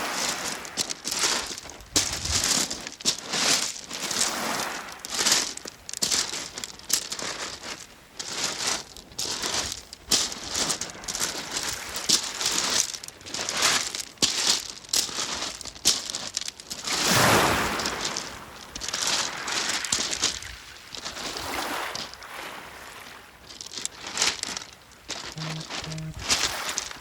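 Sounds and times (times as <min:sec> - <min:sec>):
pebbles crunching and rattling: 0:00.1 - 0:27.0.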